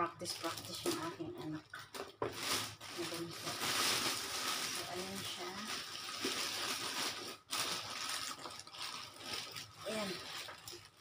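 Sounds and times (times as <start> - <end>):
plastic packaging rustling: 0.0 - 11.0.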